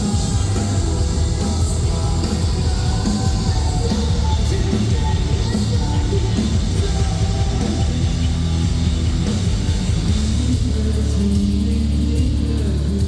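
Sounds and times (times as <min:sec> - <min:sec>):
bass guitar: 0:00.0 - 0:13.0
drums: 0:00.0 - 0:13.0
heavy distorted guitars: 0:00.0 - 0:13.0.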